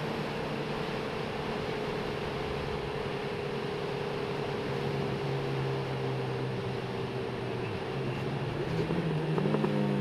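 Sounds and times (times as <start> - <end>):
motorcycle engine hum: 0.0 - 10.0.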